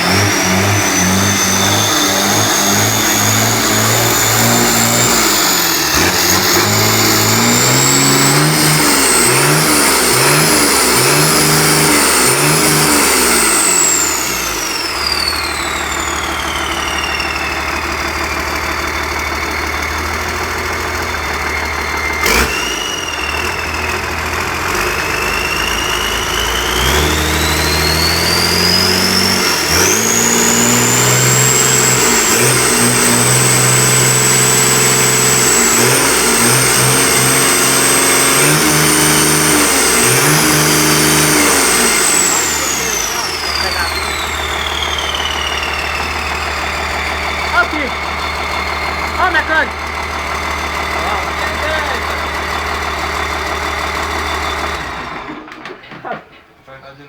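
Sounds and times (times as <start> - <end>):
turbocharger whine: 0.0 - 55.9
diesel engine revving: 0.0 - 56.2.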